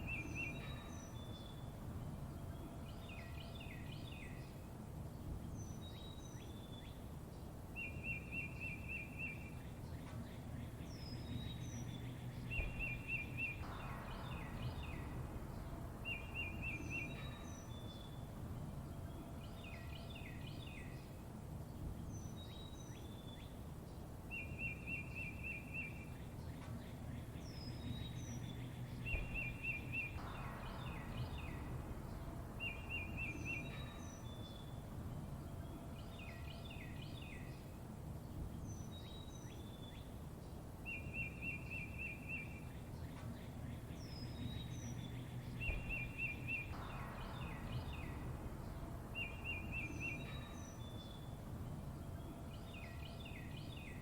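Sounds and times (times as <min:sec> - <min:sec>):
low background rumble: 0:00.0 - 0:54.0
songbirds chirping: 0:00.0 - 0:54.0.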